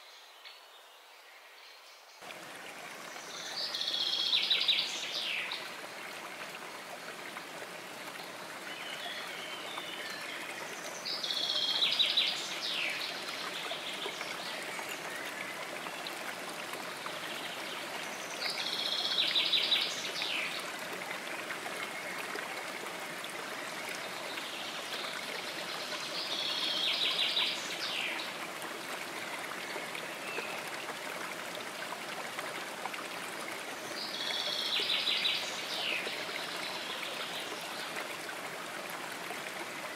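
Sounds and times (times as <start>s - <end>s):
stream splashing over stones: 2.2s - 39.9s.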